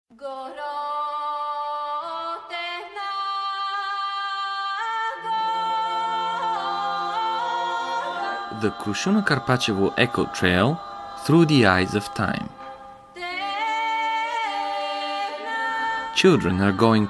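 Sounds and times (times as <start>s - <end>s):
voices singing a cappella: 0.2s - 17.0s.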